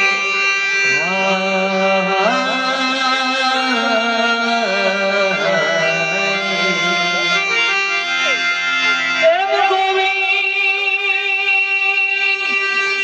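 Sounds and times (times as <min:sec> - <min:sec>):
folk melody instrument playing: 0:00.0 - 0:13.0.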